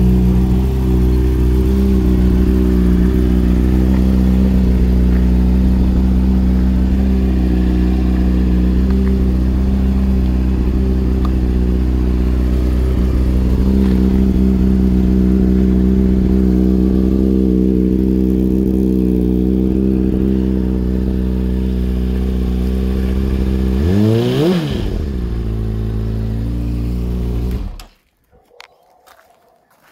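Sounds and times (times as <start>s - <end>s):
motorcycle engine idling: 0.0s - 27.8s.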